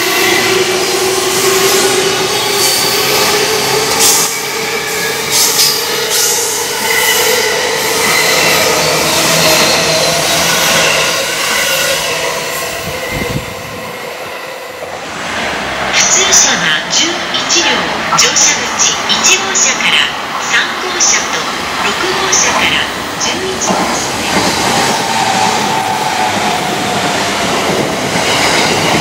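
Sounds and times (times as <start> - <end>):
train running noise: 0.0 - 29.0.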